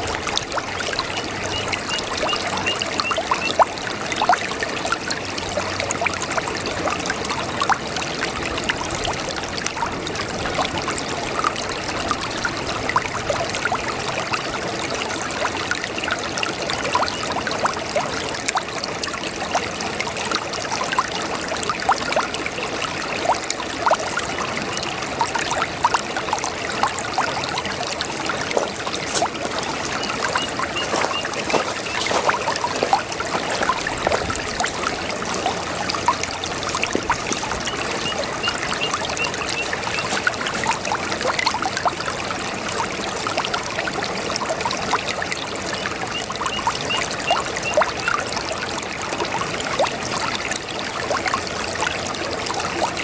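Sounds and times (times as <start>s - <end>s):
brook babbling over stones: 0.0s - 53.0s.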